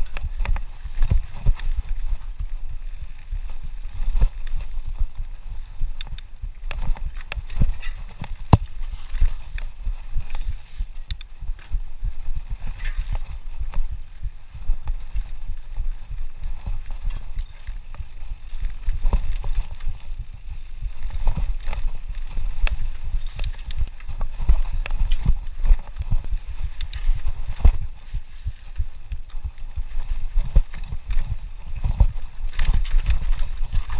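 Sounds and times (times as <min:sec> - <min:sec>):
bike clicks and rattles: 0:00.0 - 0:33.9
bike tyres thudding over bumps: 0:00.0 - 0:33.9.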